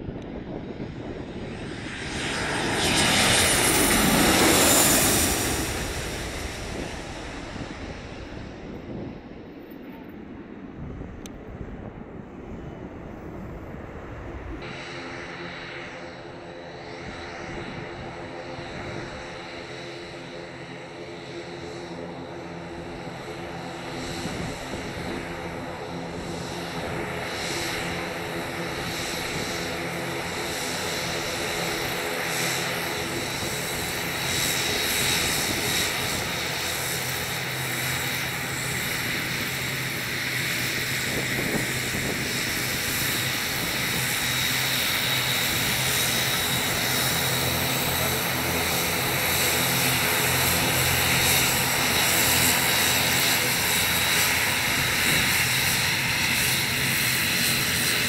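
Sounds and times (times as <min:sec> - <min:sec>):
airliner engines droning: 0:00.0 - 0:58.0.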